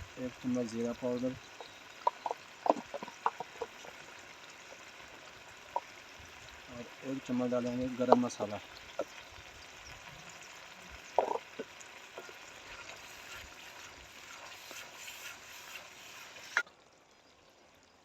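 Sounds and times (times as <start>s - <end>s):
food sizzling in a cooking pot: 0.0s - 16.7s.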